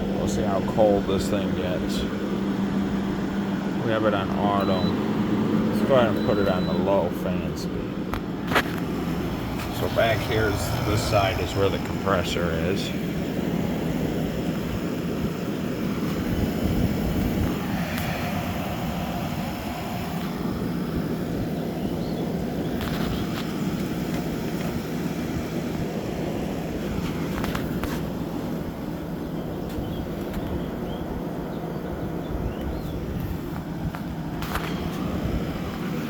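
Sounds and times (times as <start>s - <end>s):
air conditioner droning: 0.0s - 36.0s.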